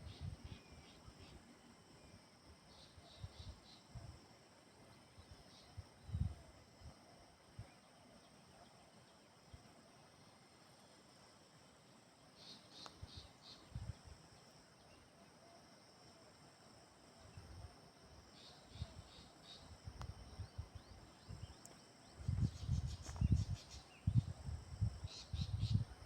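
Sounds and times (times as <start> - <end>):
quick insect chirps: 0.0 - 6.9, 10.2 - 15.6, 17.0 - 26.0
crickets trilling: 0.0 - 26.0.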